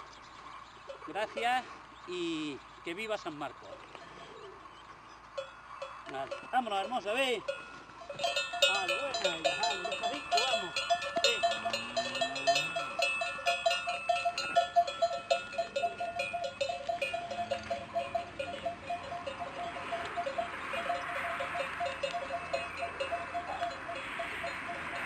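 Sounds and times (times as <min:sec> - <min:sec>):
cattle bells clanking: 0:00.9 - 0:01.7, 0:05.4 - 0:25.0.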